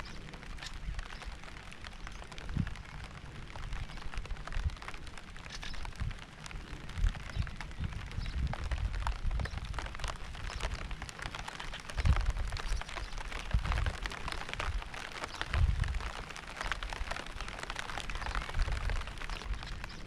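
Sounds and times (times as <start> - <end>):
steady rain patter: 0.0 - 20.0.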